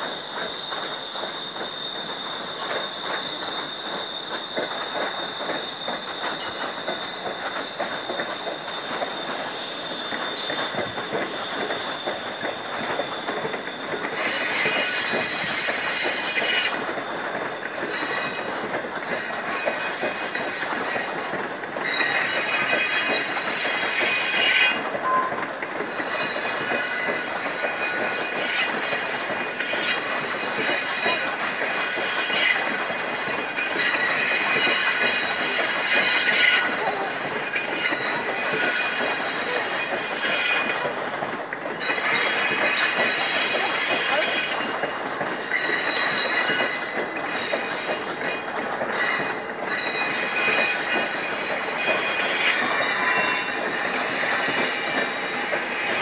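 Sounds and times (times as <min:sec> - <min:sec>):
rumble of train wheels: 0:00.0 - 0:56.0
train wheels squealing on rails: 0:00.0 - 0:56.0.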